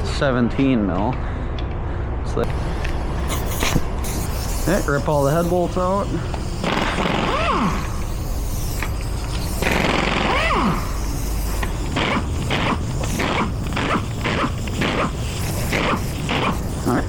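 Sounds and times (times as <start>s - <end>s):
power wrench bursts: 3.2s - 17.0s.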